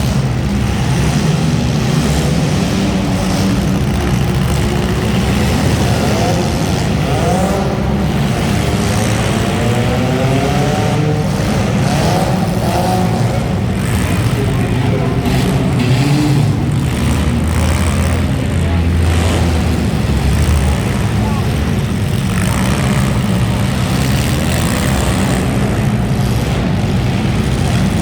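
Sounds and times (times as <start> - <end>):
car engines rumbling: 0.0 - 28.0
engines revving: 0.0 - 28.0.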